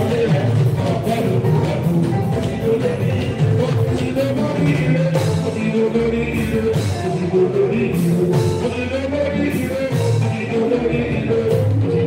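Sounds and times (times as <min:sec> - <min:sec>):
band accompaniment: 0:00.0 - 0:12.0
low bass line: 0:00.0 - 0:12.0
man singing into a microphone: 0:00.0 - 0:12.0
percussion hits: 0:00.0 - 0:12.0.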